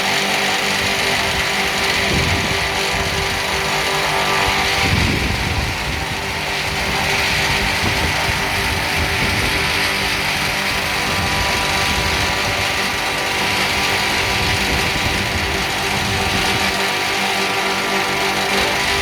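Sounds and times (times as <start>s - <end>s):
wood milling machine running: 0.0s - 19.0s.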